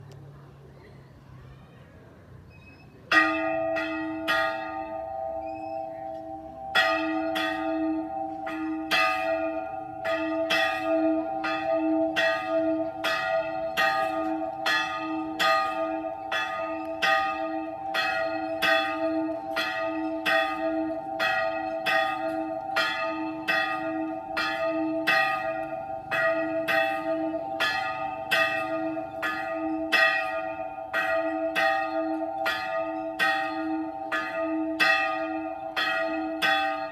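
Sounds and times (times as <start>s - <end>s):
church bell ringing: 3.1s - 36.9s.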